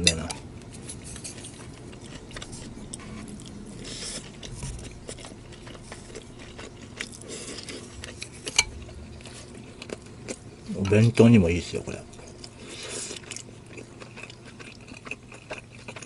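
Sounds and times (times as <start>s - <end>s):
person chewing: 0.6s - 10.9s, 12.1s - 16.0s.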